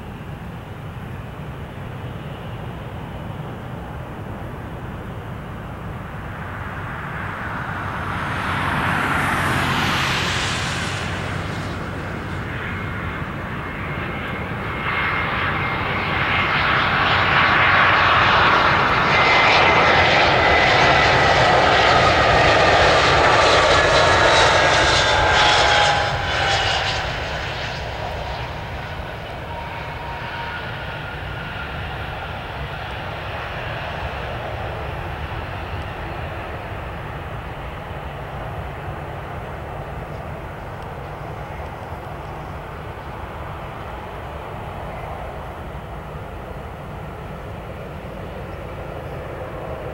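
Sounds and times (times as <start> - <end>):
jet engines rumbling: 0.0 - 49.9
jet engine whining tones: 6.4 - 49.9.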